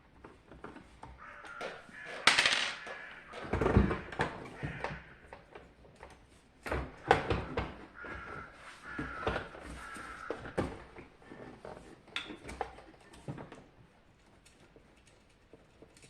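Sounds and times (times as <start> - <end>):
plastic parts clicking and knocking: 0.1 - 16.0.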